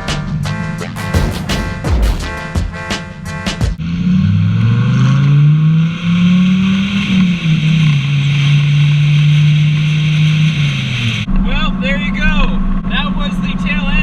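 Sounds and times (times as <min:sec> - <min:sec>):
car engine accelerating: 0:00.2 - 0:14.0.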